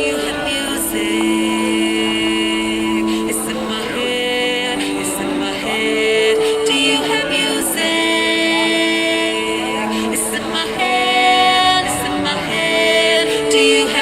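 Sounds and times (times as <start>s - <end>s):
person singing long notes: 0.0s - 14.0s
street band playing: 0.0s - 14.0s.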